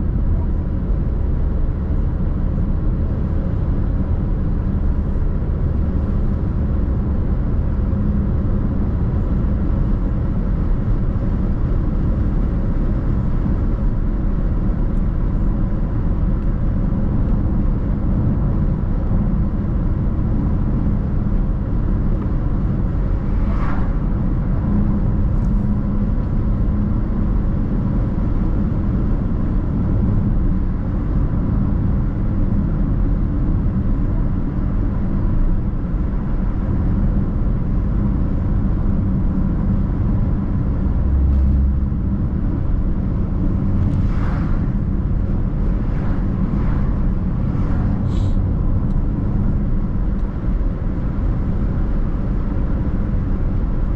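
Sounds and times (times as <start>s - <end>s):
car driving road noise: 0.0s - 53.9s.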